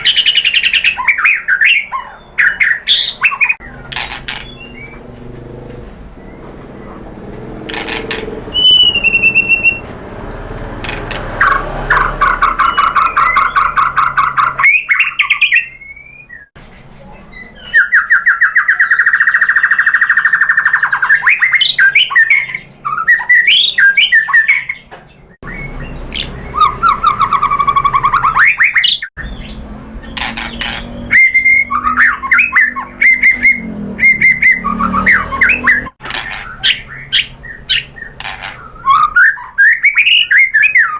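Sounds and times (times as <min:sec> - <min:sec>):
songbird singing trills and whistles: 0:00.0 - 0:10.8, 0:11.4 - 0:40.9.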